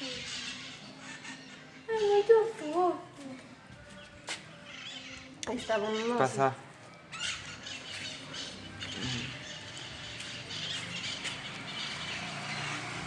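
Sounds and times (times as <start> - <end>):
small birds chirping: 0.0 - 2.8, 3.7 - 13.0.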